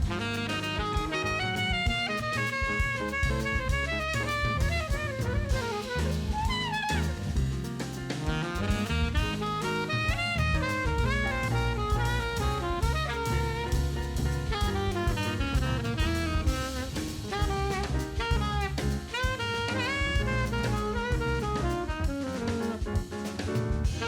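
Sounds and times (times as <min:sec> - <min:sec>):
jazz music with saxophone and drums: 0:00.0 - 0:24.0.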